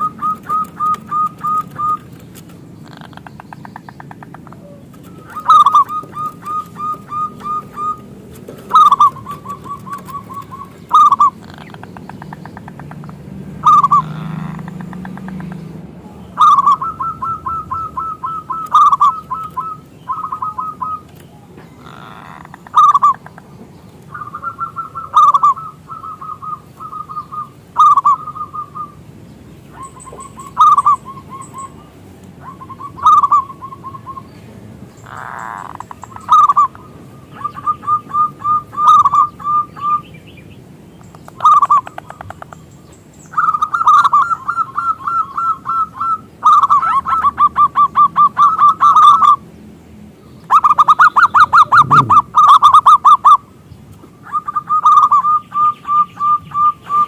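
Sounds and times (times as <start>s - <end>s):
dove cooing: 0.0s - 15.8s, 16.4s - 23.4s, 24.1s - 29.0s, 29.7s - 40.1s, 41.3s - 42.6s, 43.3s - 49.4s, 50.5s - 53.5s, 54.2s - 57.0s.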